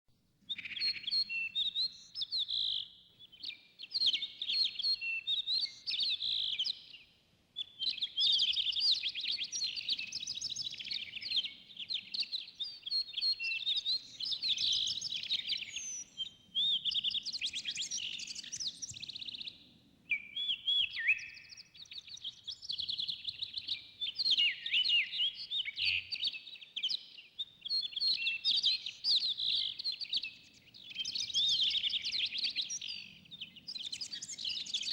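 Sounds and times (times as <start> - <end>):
songbirds singing and chirping: 0.4 - 34.9.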